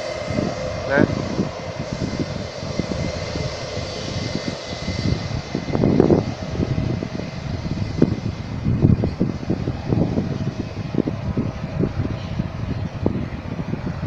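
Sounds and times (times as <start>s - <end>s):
faint jet engine whine: 0.0s - 14.0s
jet engines rumbling: 0.0s - 14.0s.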